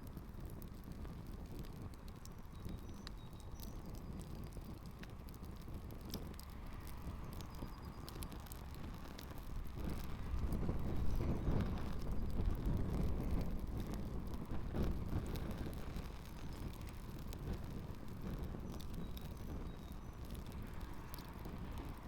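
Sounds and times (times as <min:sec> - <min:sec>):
campfire crackling and popping: 0:00.0 - 0:22.0
wind rumble on microphone: 0:00.0 - 0:22.0.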